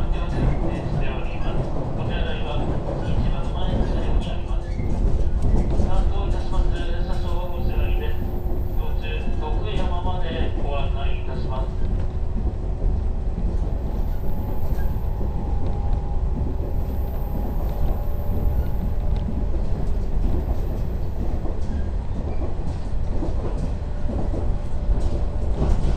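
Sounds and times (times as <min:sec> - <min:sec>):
train rumbling on track: 0:00.0 - 0:25.9.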